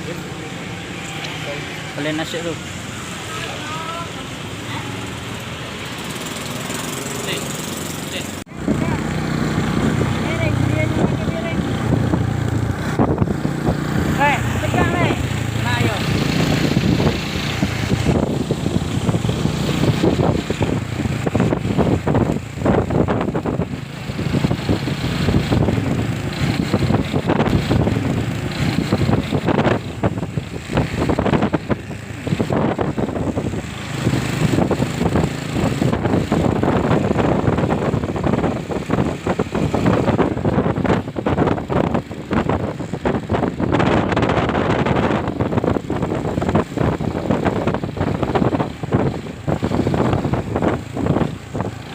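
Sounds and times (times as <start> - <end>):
motorcycle engine rumbling: 0.0 - 51.9
wind buffeting microphone: 3.8 - 51.9.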